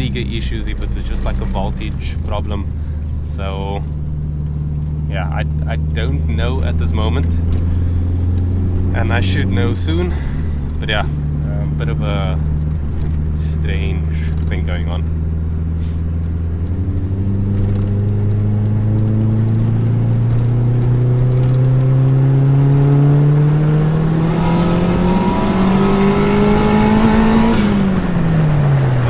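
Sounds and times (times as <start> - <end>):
turbocharged car engine revving: 0.0 - 29.0.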